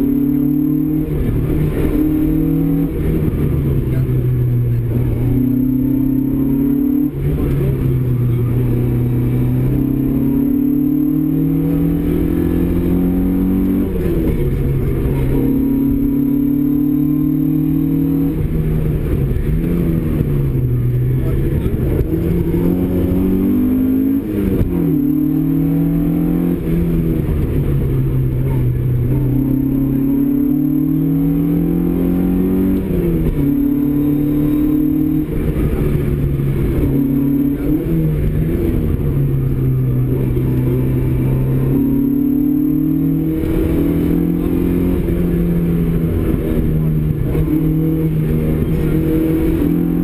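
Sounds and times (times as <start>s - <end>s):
rally car engine revving: 0.0s - 50.0s.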